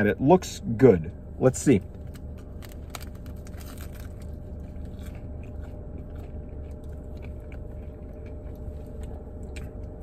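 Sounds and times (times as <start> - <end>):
steady low hum: 0.0 - 10.0
person chewing crunchy bread: 1.8 - 10.0.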